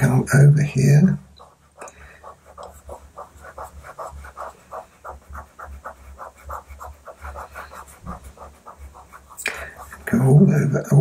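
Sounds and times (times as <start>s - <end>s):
pastel scrubbing on paper: 1.4s - 10.4s.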